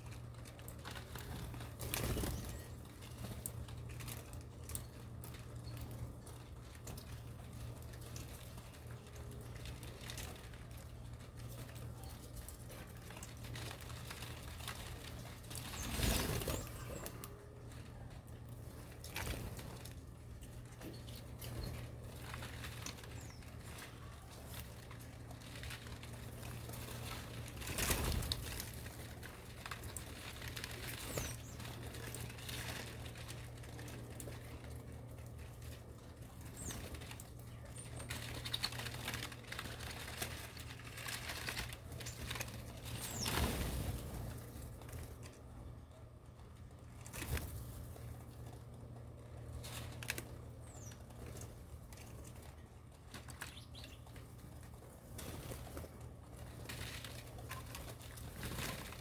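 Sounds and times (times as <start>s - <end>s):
birds fluttering and rustling: 0.0s - 59.0s.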